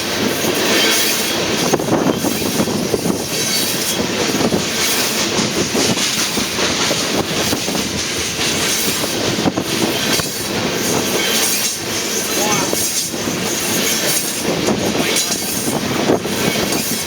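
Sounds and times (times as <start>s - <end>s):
train rumble and hiss: 0.0s - 17.0s
train wheels clicking over rail joints: 0.0s - 17.0s.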